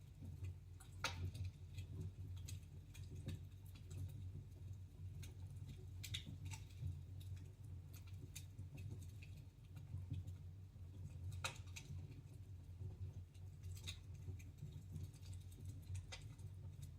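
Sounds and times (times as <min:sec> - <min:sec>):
wood fire crackling and popping: 0:00.0 - 0:16.9.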